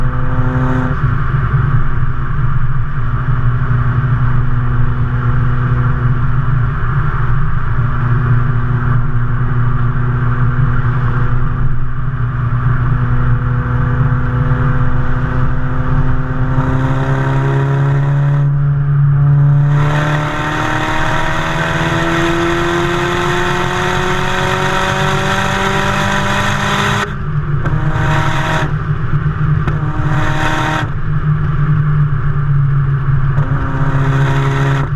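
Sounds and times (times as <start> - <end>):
turbo car exhaust revving: 0.0 - 34.9.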